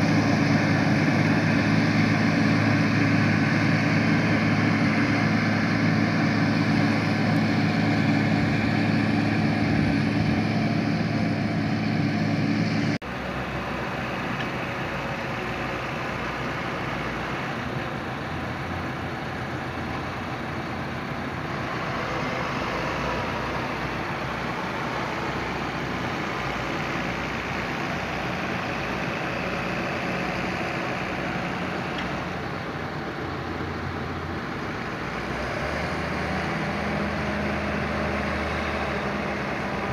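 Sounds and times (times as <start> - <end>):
rough tractor engine: 0.0 - 39.9.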